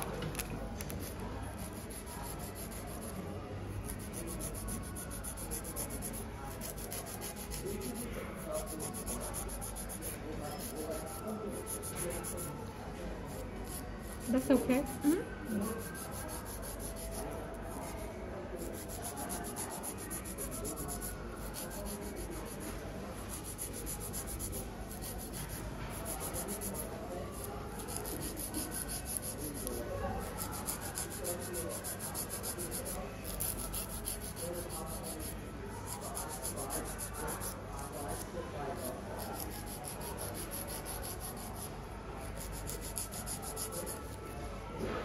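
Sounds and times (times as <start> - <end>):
nail file rasping: 0.4 - 3.2, 3.8 - 12.5, 13.3 - 18.0, 18.6 - 38.2, 38.8 - 41.7, 42.3 - 44.2.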